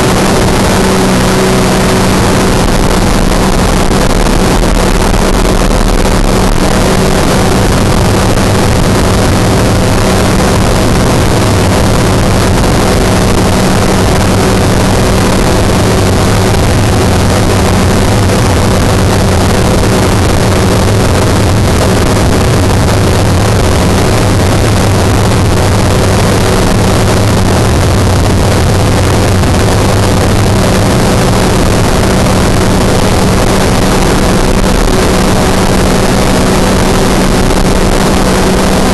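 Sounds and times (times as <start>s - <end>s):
ultralight engine and propeller drone: 0.0s - 38.9s.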